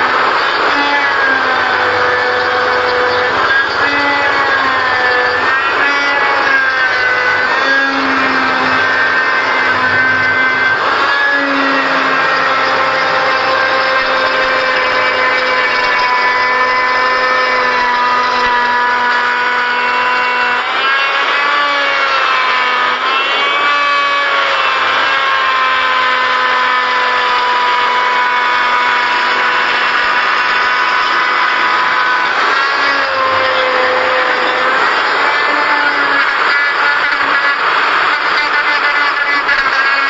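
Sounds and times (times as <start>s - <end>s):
power tool whining while carving wood: 0.0s - 40.0s.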